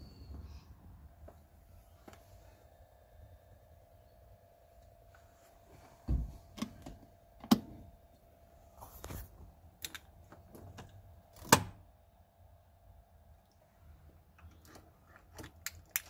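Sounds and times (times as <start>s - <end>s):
faint whine from car speakers: 0.0s - 15.5s.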